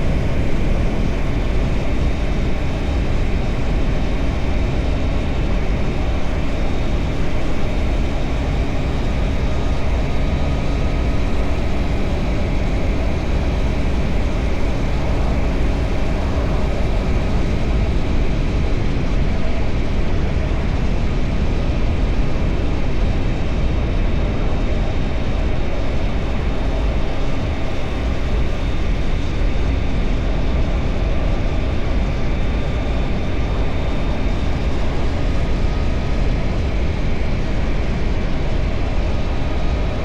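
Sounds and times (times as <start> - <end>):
wind rush on microphone: 0.0 - 40.0.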